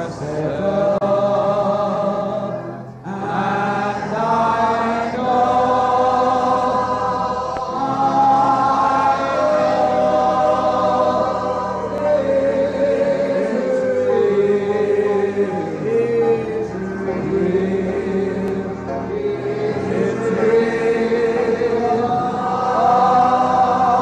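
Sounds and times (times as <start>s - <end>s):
congregation singing slow chorus: 0.0s - 24.0s.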